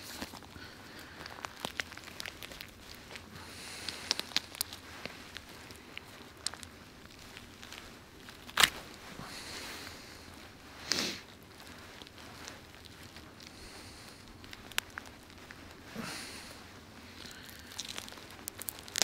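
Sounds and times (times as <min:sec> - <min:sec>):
feathers and skin tearing: 0:00.0 - 0:19.0
bird carcass clicks and crackles: 0:00.1 - 0:09.0, 0:11.3 - 0:15.8, 0:16.4 - 0:19.0
bone cracking: 0:00.1 - 0:09.0, 0:11.2 - 0:19.0.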